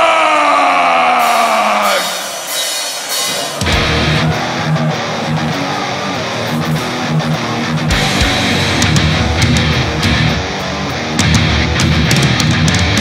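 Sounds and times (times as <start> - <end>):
drums: 0.0 - 13.0
heavy metal band playing live: 0.0 - 13.0
distorted electric guitar riff: 1.2 - 13.0.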